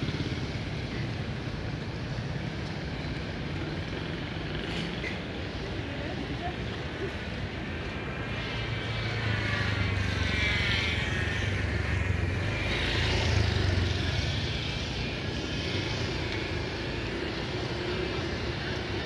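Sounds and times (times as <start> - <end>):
motor scooters passing: 0.0 - 19.0.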